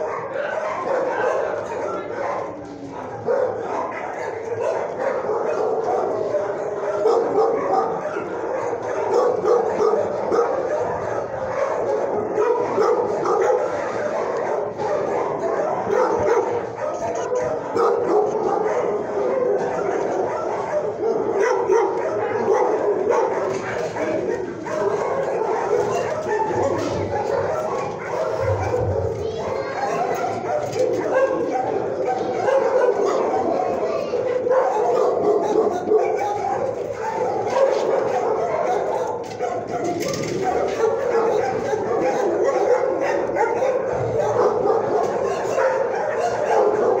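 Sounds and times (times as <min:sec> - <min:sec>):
many dogs barking and yelping: 0:00.0 - 0:47.0.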